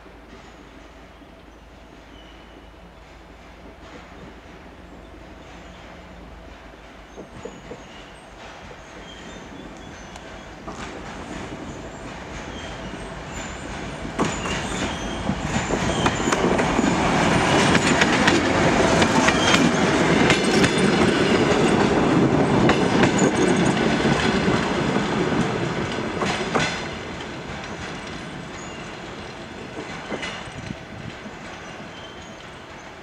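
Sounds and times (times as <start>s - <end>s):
diesel locomotive passing: 0.0s - 33.0s
train coaches clacking over rail joints: 3.0s - 33.0s.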